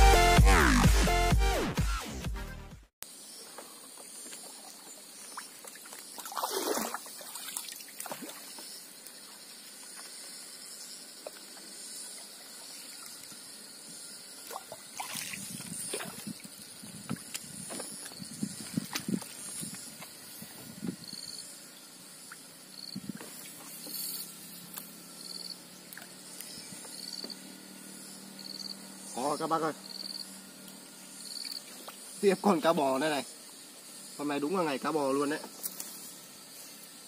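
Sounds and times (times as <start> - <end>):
insects chirping: 3.0 - 37.0.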